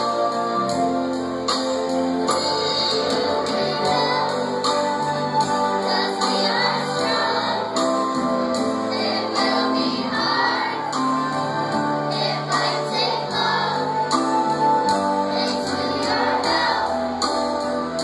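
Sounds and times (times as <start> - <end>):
instrumental accompaniment: 0.0 - 18.0
children singing together: 2.4 - 18.0.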